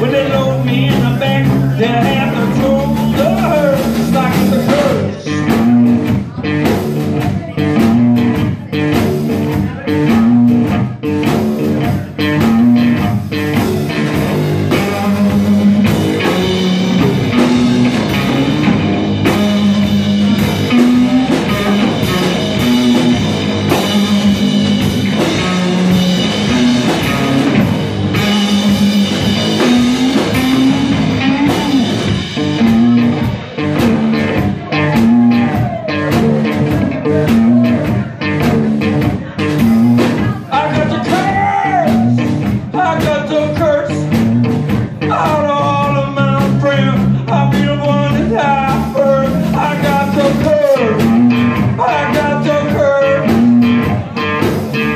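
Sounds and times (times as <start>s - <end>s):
drum hits: 0.0s - 54.8s
electric bass guitar: 0.0s - 54.9s
electric guitar: 0.0s - 54.9s.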